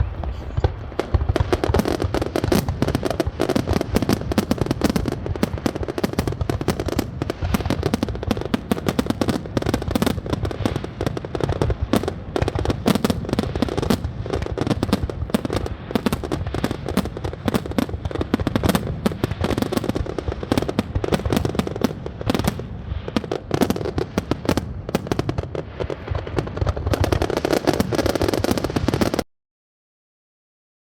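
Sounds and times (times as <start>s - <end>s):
deep firework booms: 0.0s - 29.2s
fireworks crackling and popping: 0.0s - 29.3s.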